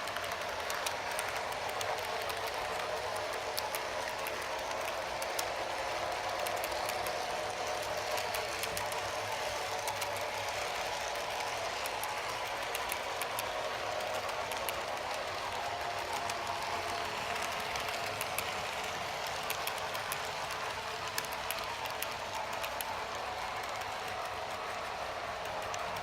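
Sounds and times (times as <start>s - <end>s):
model train motor whining: 0.0s - 26.0s
wheels ticking over track: 0.0s - 26.0s.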